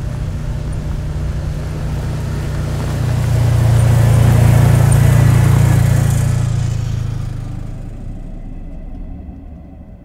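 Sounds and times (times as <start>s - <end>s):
utility vehicle engine running: 0.0s - 10.0s.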